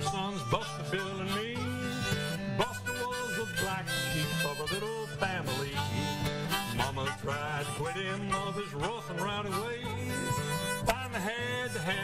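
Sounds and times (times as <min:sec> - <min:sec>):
harmonica with bent notes: 0:00.0 - 0:12.0
strummed acoustic guitar: 0:00.0 - 0:12.0.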